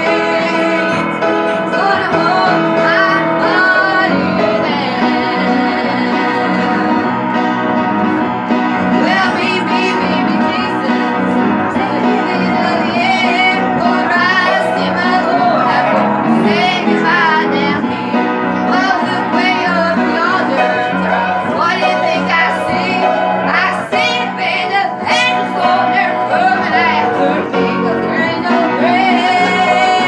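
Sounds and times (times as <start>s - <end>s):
upright piano: 0.0s - 30.0s
women singing gospel: 0.0s - 30.0s.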